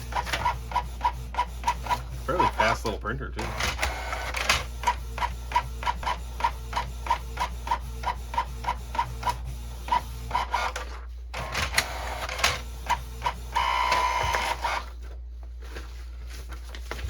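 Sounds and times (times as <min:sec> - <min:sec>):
printer rhythmic clicking: 0:00.0 - 0:15.1
printer mechanism noise: 0:00.0 - 0:15.2
printer motor whine: 0:00.0 - 0:15.2.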